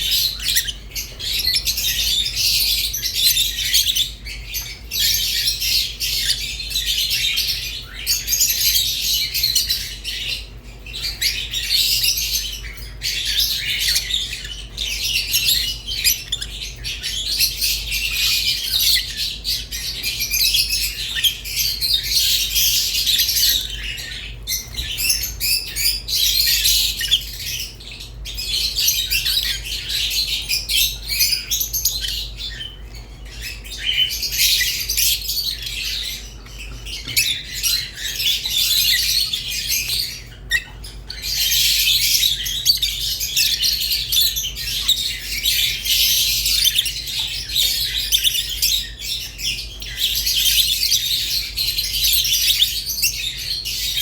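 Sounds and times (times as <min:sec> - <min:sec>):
lovebirds chirping and chattering: 0:00.0 - 0:54.0.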